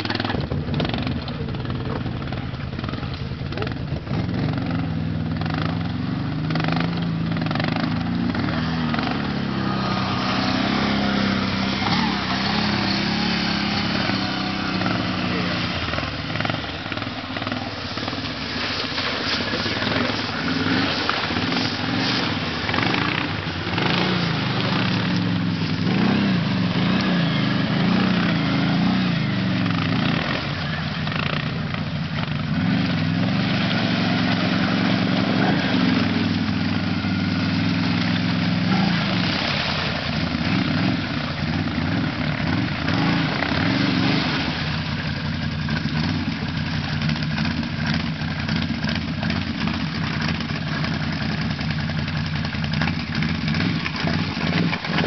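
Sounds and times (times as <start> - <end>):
atv engine revving: 0.0 - 55.0
churning splashing water: 0.0 - 55.0.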